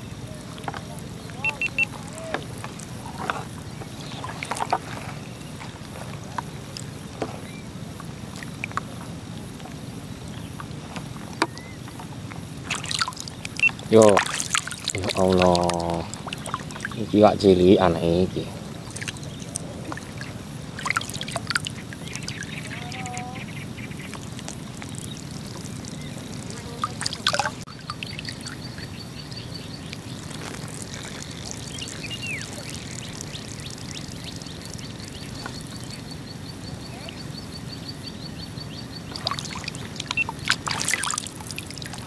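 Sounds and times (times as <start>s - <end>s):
short water splashes: 0.0s - 9.6s, 10.3s - 36.2s, 39.0s - 42.0s
water sloshing and lapping: 0.0s - 37.7s, 38.6s - 42.0s.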